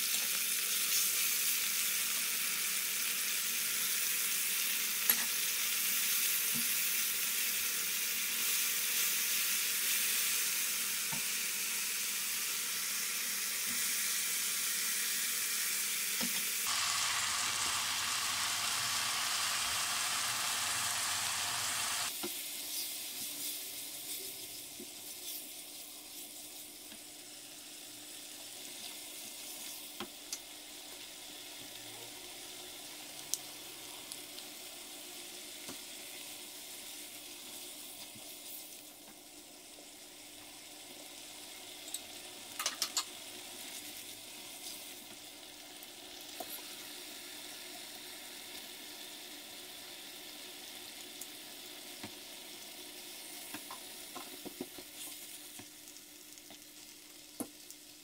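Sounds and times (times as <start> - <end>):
sauce sizzling in a wok: 0.0 - 58.0.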